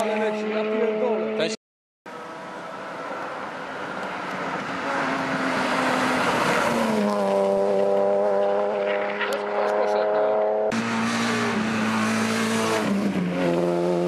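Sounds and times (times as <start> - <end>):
rally car passing at speed: 2.1 - 14.0.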